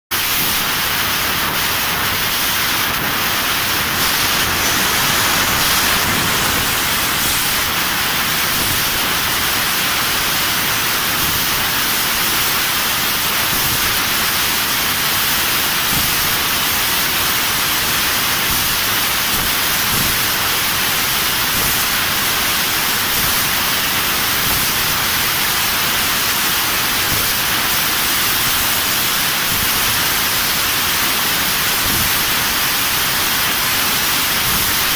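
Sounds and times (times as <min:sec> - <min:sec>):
laser cutter gas jet hiss: 0:00.1 - 0:34.9.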